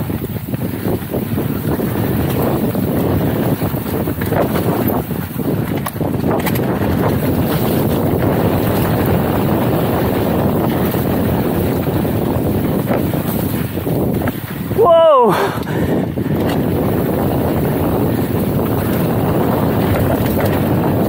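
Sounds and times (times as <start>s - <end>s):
bike tyres rolling over dirt: 0.0s - 21.0s
wind rushing over microphone: 0.0s - 21.0s.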